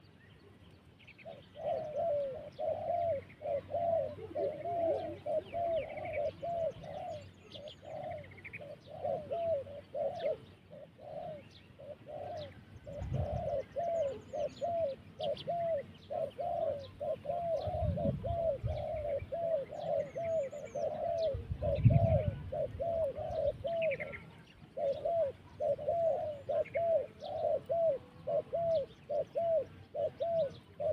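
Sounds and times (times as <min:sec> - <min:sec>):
small birds chirping faintly: 0:00.0 - 0:30.9
dove cooing: 0:01.2 - 0:30.9.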